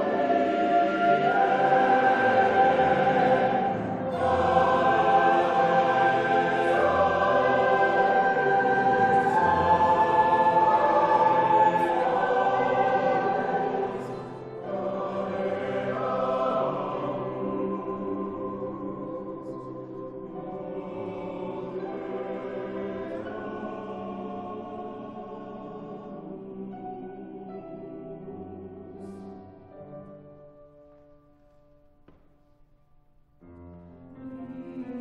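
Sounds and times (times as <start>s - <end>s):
mixed choir singing: 0.0s - 29.5s, 34.4s - 35.0s.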